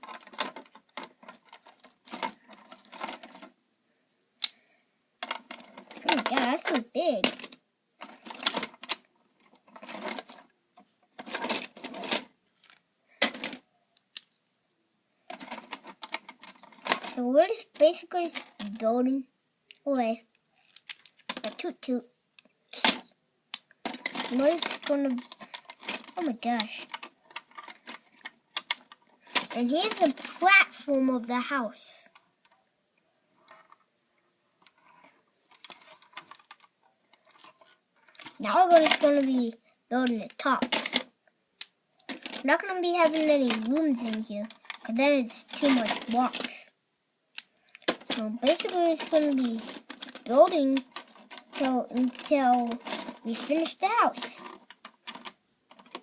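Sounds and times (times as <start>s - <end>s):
plastic bricks rattling and clicking: 0.0s - 3.6s, 4.4s - 14.4s, 15.3s - 18.9s, 19.8s - 31.1s, 34.6s - 46.7s, 47.4s - 56.0s.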